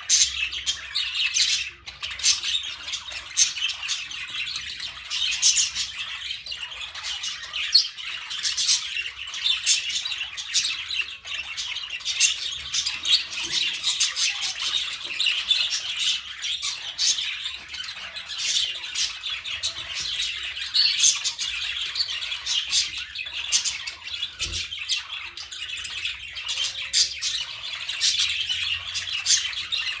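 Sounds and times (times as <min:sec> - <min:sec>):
flock of birds chirping: 0:00.0 - 0:30.0.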